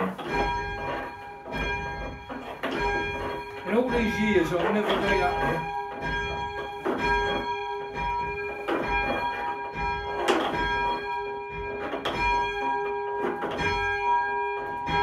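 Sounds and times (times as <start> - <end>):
church bell ringing: 0.0 - 15.0.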